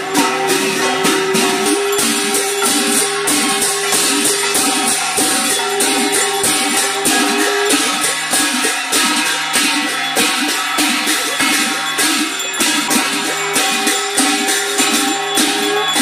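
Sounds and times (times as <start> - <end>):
brass hand cymbals clashing: 0.0 - 16.0
instruments holding sustained tones: 0.0 - 16.0.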